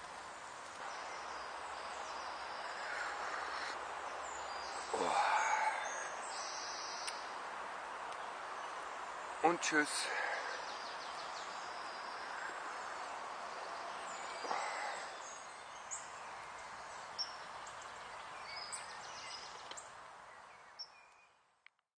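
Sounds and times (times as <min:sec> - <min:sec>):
soft woodland rush: 0:00.0 - 0:21.8.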